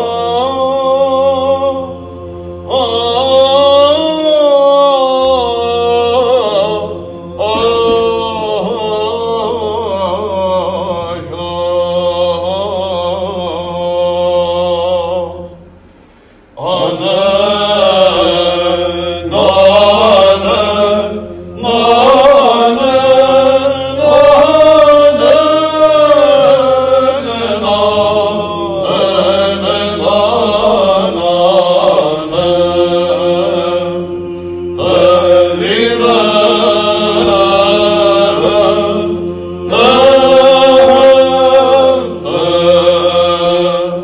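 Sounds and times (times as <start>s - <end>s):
choir chanting melody: 0.0s - 44.0s
held drone note: 0.0s - 44.0s.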